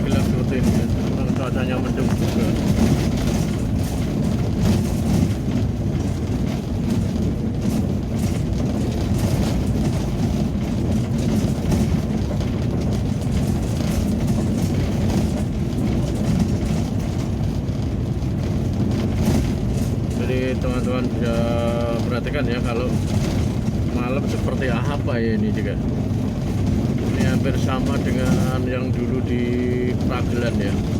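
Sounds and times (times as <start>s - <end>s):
vehicle engine and road rumble: 0.0s - 30.9s.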